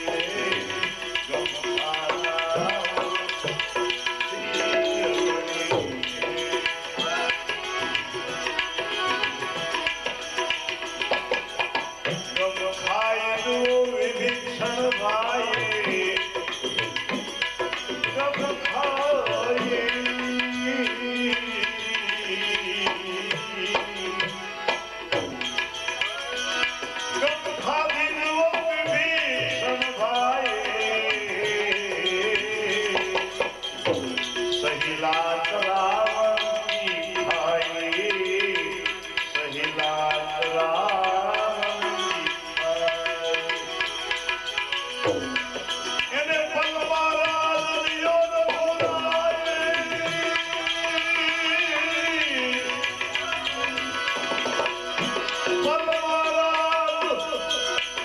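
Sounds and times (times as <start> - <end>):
tabla playing a steady beat: 0.0 - 58.0.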